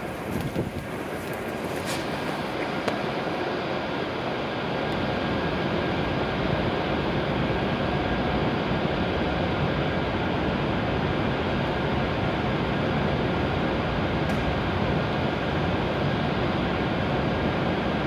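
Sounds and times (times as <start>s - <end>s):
train equipment running: 0.0s - 18.0s.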